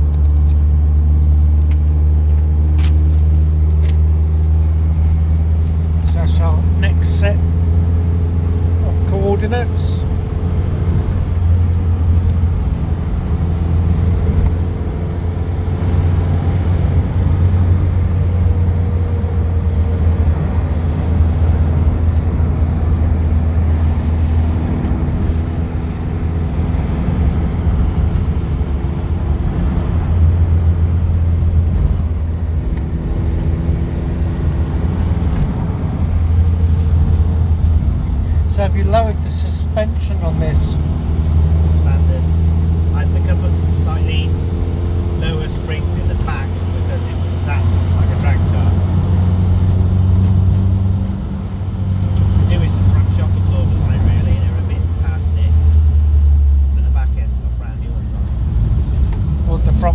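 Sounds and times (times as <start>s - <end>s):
car engine droning: 0.0s - 59.9s
road noise: 0.0s - 59.9s.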